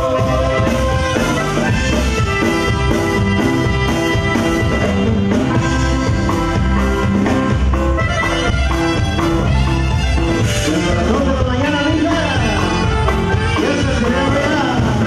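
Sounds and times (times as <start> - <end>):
alto saxophone melody: 0.0 - 15.0
button accordion: 0.0 - 15.0
drum kit beat: 0.0 - 15.0
electric bass: 0.0 - 15.0
guitar: 0.0 - 15.0.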